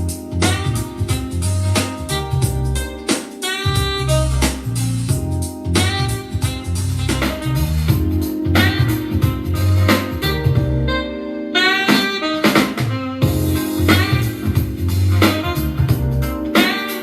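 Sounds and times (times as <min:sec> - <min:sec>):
bass-heavy music with guitar: 0:00.0 - 0:11.1, 0:12.8 - 0:16.6.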